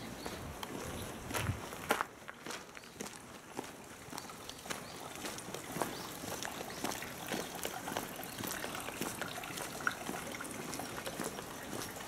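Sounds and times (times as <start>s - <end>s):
footsteps on gravel path: 0.0s - 12.0s.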